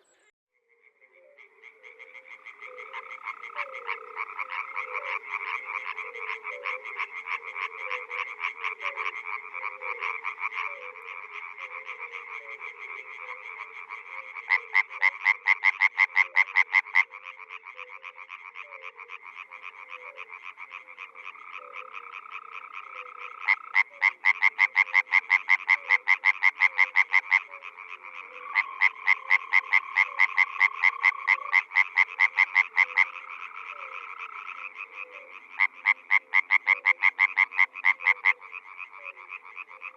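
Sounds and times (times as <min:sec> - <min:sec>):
chorus of frogs trilling: 0:00.0 - 0:39.9
frog rapid croaks: 0:00.0 - 0:39.9.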